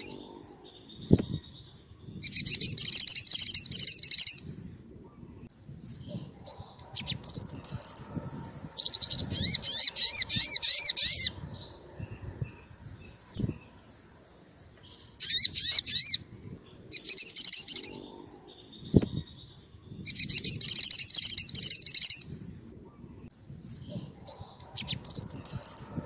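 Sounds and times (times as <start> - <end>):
sunbird chirping trills: 0.0 - 26.0.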